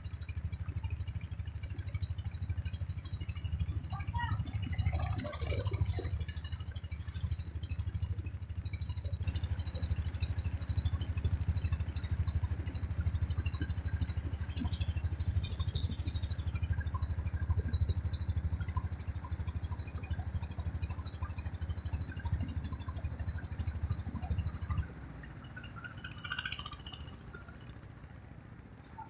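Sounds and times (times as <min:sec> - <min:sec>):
boat motor chugging: 0:00.0 - 0:29.0.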